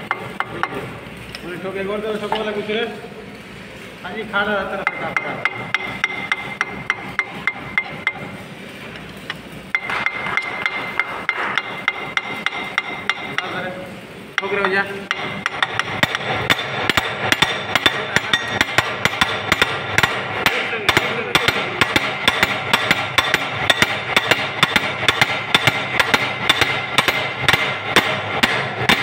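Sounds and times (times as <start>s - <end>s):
hammer tapping metal: 0.0s - 0.9s, 4.7s - 8.4s, 9.7s - 13.7s, 14.4s - 29.0s.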